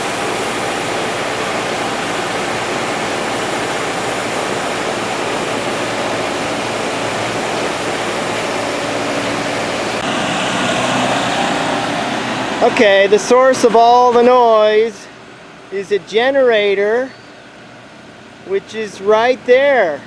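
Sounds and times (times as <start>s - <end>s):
generator running steadily: 0.0s - 20.0s.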